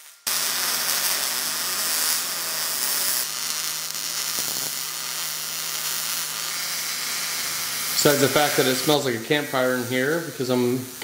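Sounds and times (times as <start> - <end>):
welder crackling hiss: 0.0 - 11.0.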